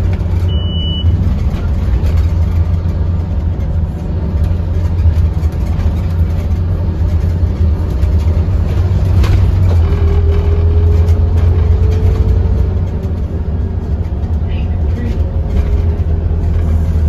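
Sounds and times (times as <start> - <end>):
bus engine droning: 0.0 - 17.0
faint drivetrain whine: 0.0 - 17.0.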